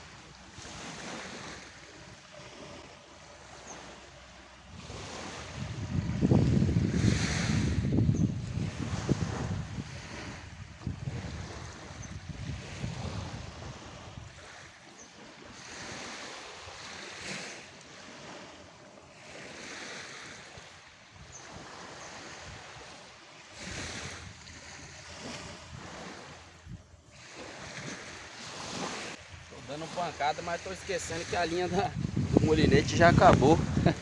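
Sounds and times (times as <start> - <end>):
surf washing onto beach: 0.0 - 34.0
wind on microphone: 4.6 - 29.6, 30.8 - 34.0.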